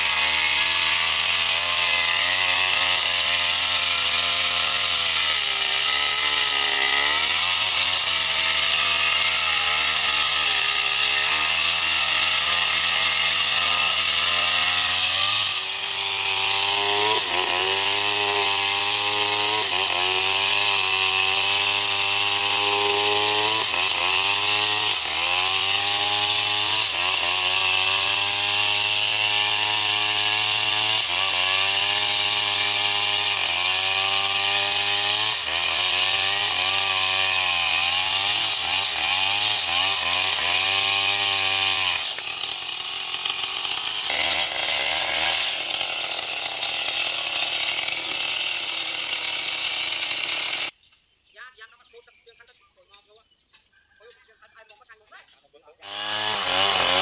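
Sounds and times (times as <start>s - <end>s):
chainsaw cutting log: 0.0s - 50.8s, 55.8s - 57.0s.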